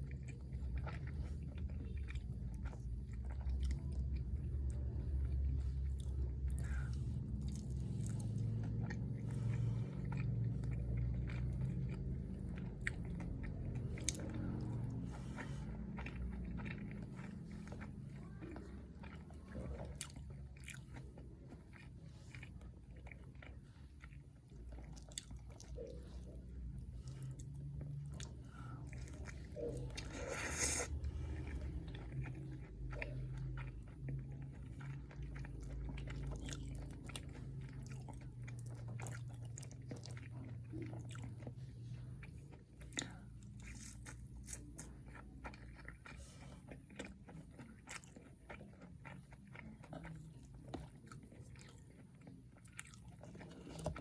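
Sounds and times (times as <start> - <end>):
chewing crunchy fried food: 0.0 - 54.0.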